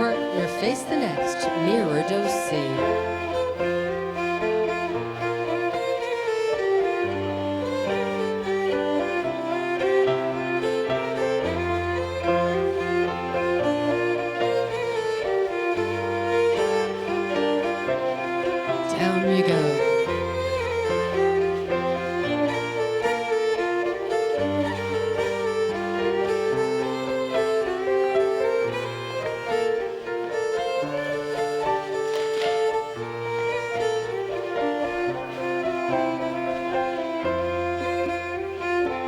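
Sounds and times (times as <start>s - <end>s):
fiddle-led dance tune: 0.0s - 39.0s.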